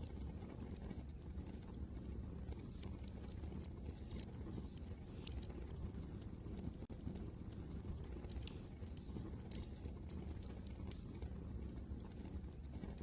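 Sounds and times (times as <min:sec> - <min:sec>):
low rumble of wind: 0:00.0 - 0:13.0
wood fire crackling: 0:00.0 - 0:13.0.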